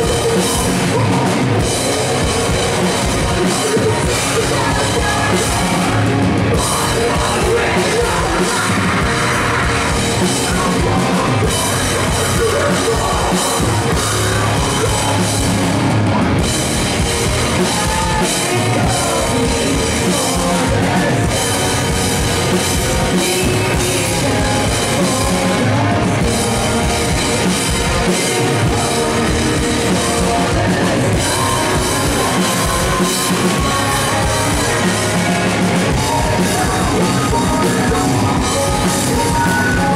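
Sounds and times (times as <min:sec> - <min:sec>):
rock band playing live: 0:00.0 - 0:39.9
vocals: 0:00.0 - 0:39.9.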